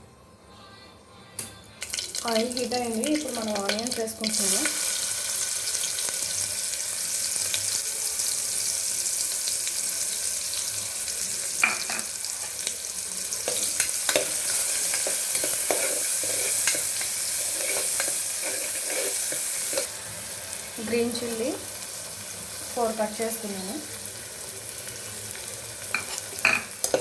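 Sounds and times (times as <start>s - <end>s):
onions sizzling in oil: 1.8s - 27.0s.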